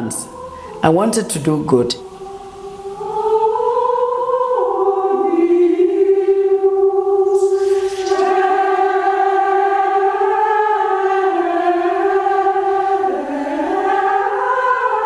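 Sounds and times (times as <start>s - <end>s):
choir-like voices holding chords: 0.0s - 15.0s.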